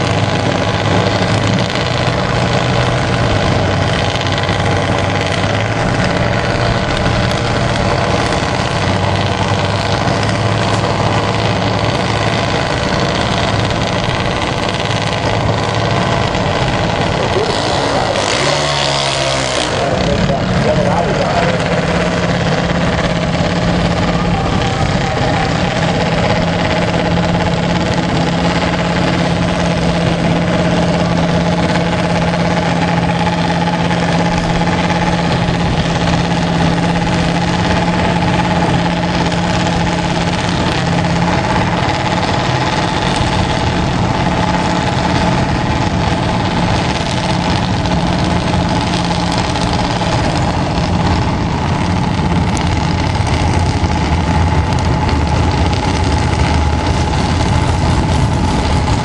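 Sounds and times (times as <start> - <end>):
deeper engine note: 0.0 - 59.0
small engines idling: 0.0 - 59.0.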